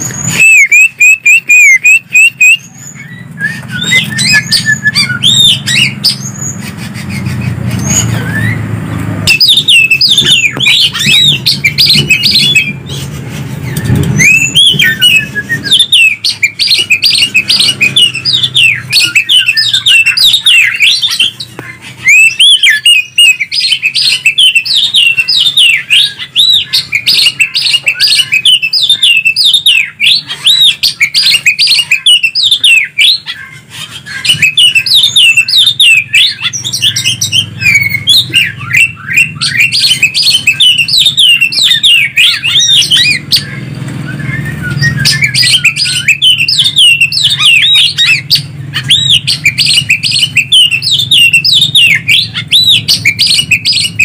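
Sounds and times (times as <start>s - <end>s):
birds singing whistles and chirps: 0.0s - 54.0s.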